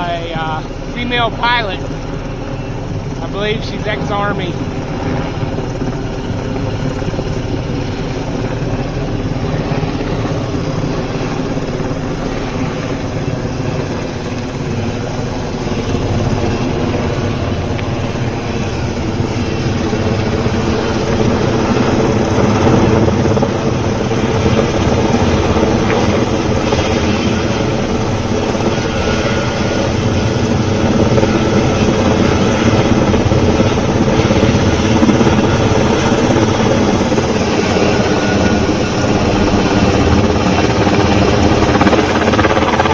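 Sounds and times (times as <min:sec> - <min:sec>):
helicopter rotor and turbine: 0:00.0 - 0:42.9.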